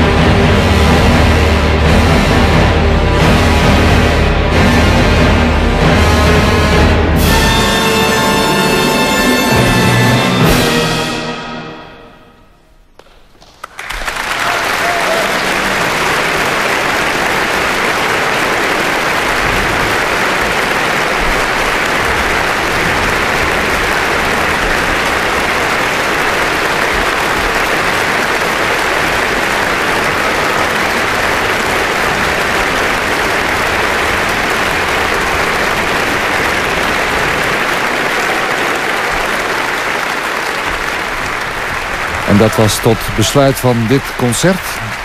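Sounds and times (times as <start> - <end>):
audience applauding: 0.0 - 11.9, 12.9 - 45.0.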